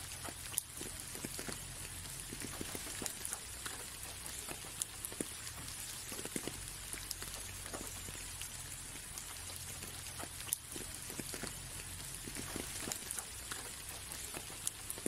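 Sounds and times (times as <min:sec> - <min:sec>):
light rain hissing: 0:00.0 - 0:15.0
raindrops tapping on glass: 0:00.0 - 0:15.0.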